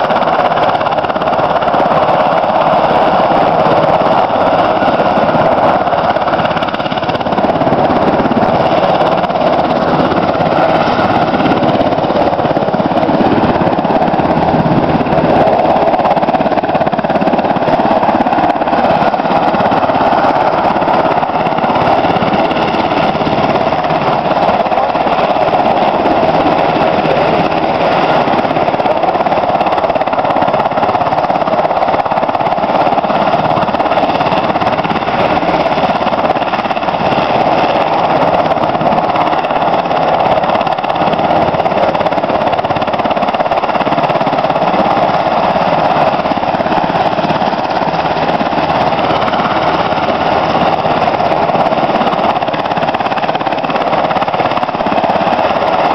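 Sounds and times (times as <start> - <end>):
helicopter blades chopping: 0.0 - 55.9.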